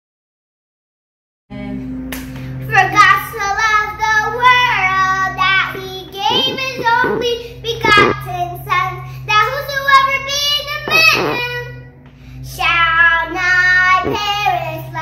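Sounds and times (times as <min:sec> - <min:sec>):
steady low hum: 0:01.5 - 0:15.0
girl singing: 0:02.6 - 0:15.0.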